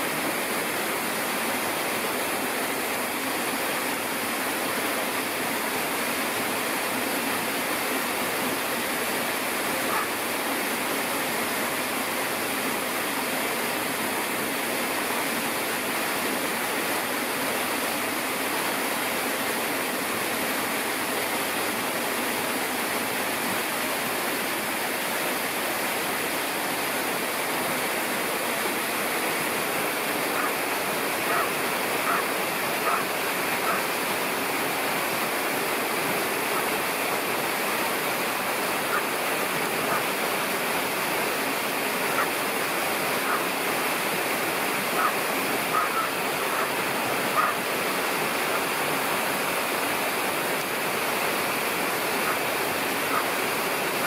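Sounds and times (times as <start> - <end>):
water falling: 0.0 - 54.0.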